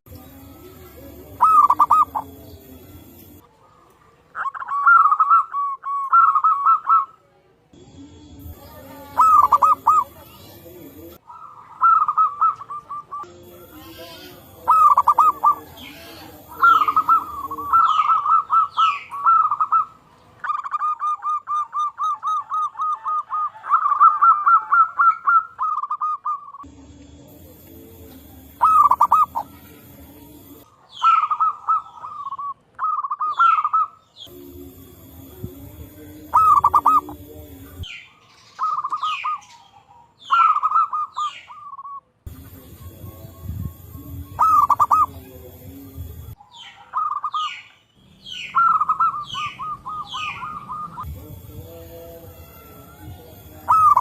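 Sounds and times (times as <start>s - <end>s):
doves cooing: 0.1s - 7.2s, 8.4s - 54.0s
small birds chirping: 0.1s - 7.2s, 7.8s - 52.2s, 53.1s - 54.0s.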